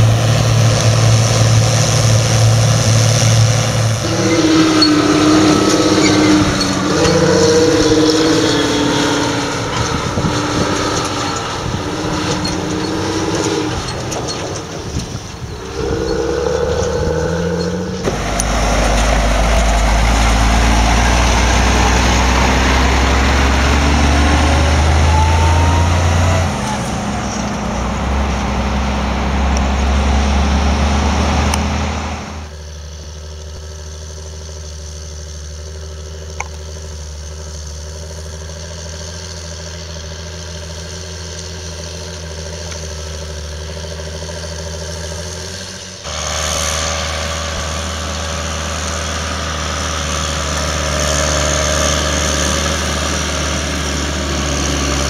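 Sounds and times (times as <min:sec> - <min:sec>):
heavy truck driving past: 0:00.0 - 0:33.5, 0:38.0 - 0:55.0
loud tractor engine: 0:00.0 - 0:55.0
tractor engine ploughing: 0:00.0 - 0:55.0.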